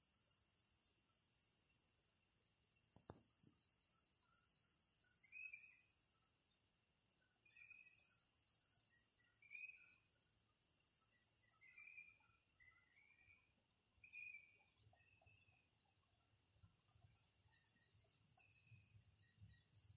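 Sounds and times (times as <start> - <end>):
bird chirps: 0.0 - 19.9
thin insect trill: 0.0 - 19.9.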